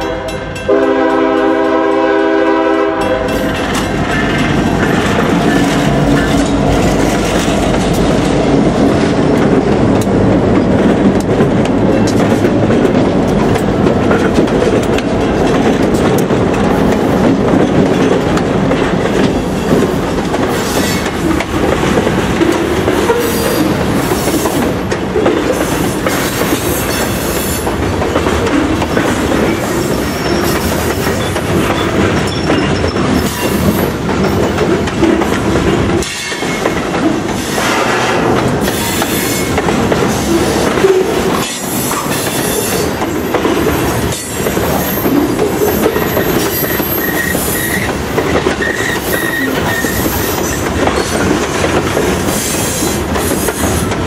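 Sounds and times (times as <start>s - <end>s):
diesel locomotive engines: 0.0s - 54.0s
train wheels clacking on rails: 0.0s - 54.0s.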